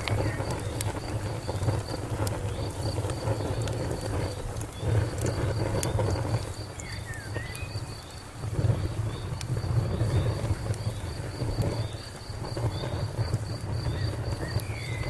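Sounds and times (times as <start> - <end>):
insect chirping: 0.0 - 15.0
wood fire crackling: 0.0 - 15.0.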